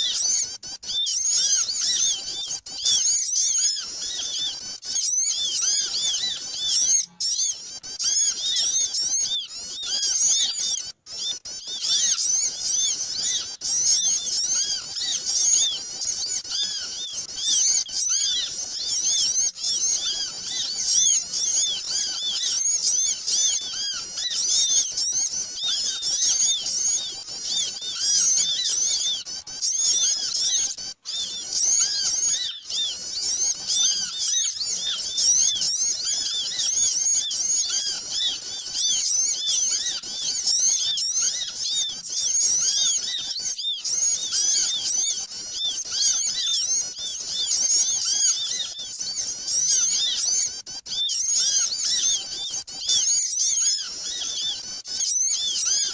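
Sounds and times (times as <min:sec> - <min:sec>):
flock of small birds chirping: 0:00.0 - 0:55.9.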